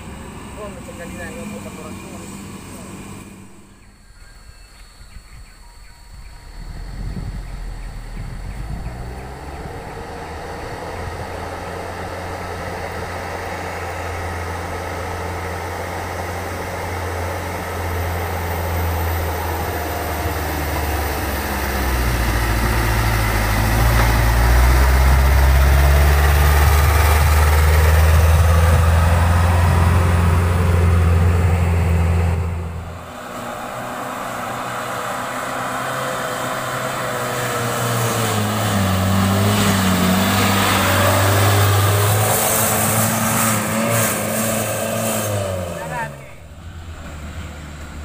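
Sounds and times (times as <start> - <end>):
dump truck diesel engine: 0.0 - 5.0, 5.6 - 48.0.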